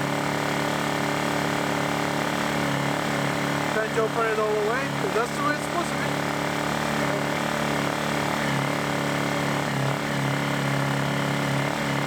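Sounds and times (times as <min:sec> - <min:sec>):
generator running: 0:00.0 - 0:12.0.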